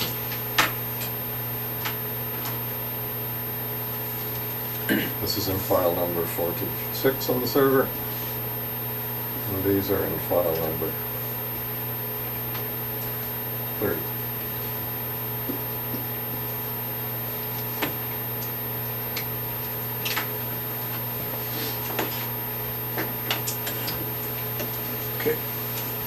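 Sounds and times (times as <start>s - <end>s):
ventilation hum: 0.0s - 26.0s.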